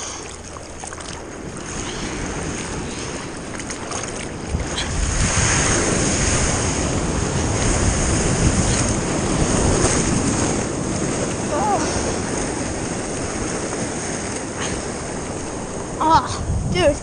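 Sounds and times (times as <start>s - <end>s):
water sloshing: 0.0s - 16.1s
ocean surf: 0.0s - 17.0s
wave breaking close by: 1.4s - 16.8s.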